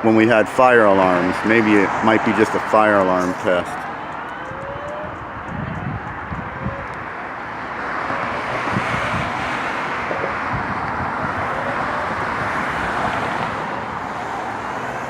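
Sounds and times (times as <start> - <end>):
road traffic rushing: 0.0 - 15.0
distant siren: 1.5 - 15.0.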